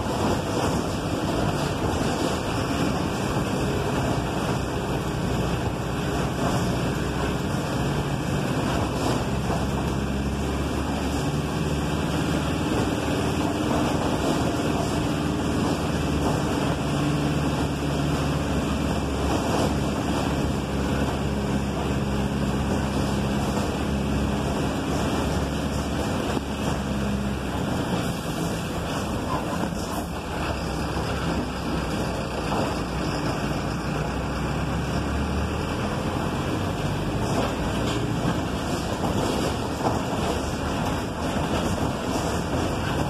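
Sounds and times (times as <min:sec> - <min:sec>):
bus engine running: 0:00.0 - 0:43.0
road and cabin noise: 0:00.0 - 0:43.0.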